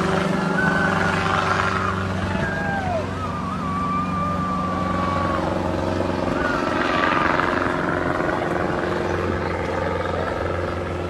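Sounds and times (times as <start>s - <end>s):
helicopter flying overhead: 0.0s - 11.0s.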